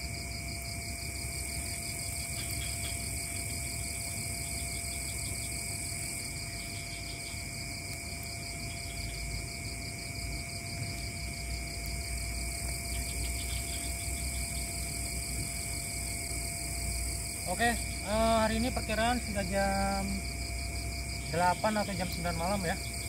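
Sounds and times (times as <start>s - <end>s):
crickets trilling: 0.0s - 23.0s
rapid pulsing insect trill: 0.0s - 23.0s.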